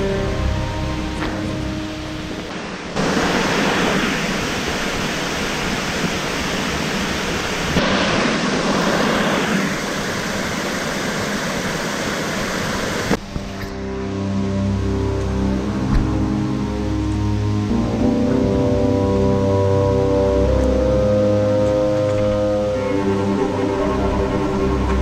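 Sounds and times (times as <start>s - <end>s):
loud rushing water: 0.0s - 25.0s.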